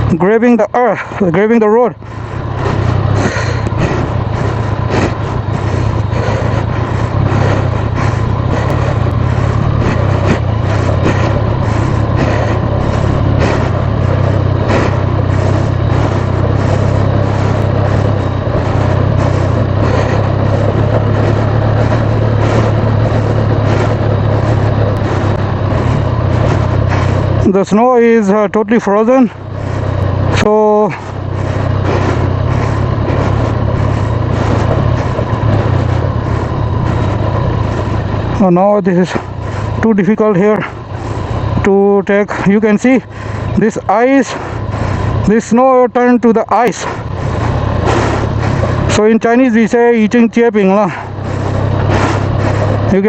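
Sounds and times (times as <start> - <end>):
motorbike road and wind rumble: 0.0 - 53.0.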